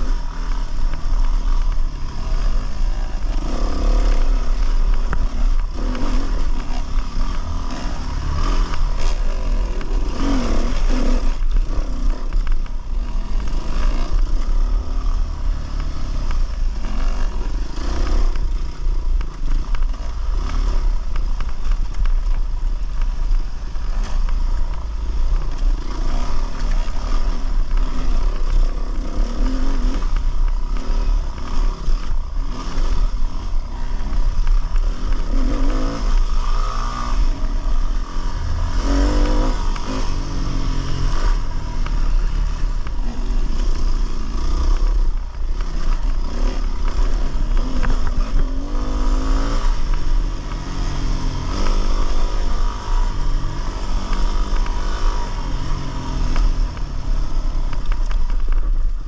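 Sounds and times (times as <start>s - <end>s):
dirt bike engine revving: 0.0s - 58.3s.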